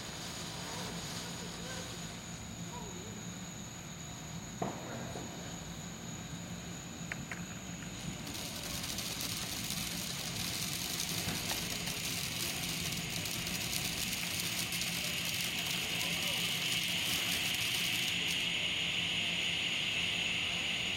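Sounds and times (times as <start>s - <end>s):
fireworks spraying sparks with hissing: 0.0s - 3.3s, 4.6s - 5.8s, 7.2s - 20.9s.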